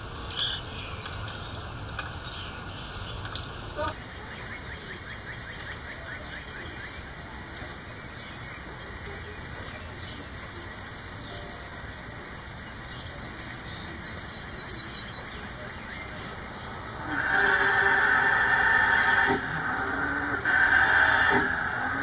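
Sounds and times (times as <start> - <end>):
rain pattering: 0.0 - 22.0.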